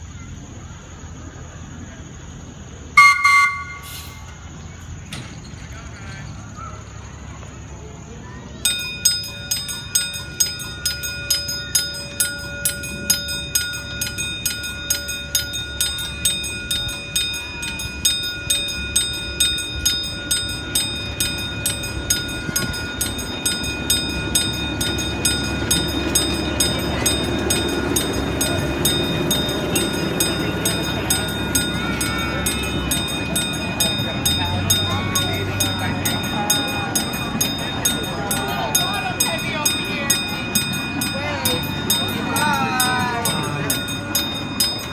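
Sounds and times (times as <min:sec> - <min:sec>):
miniature train rumbling past: 0:00.0 - 0:44.9
railroad crossing bell ringing: 0:03.0 - 0:04.5, 0:08.5 - 0:44.9.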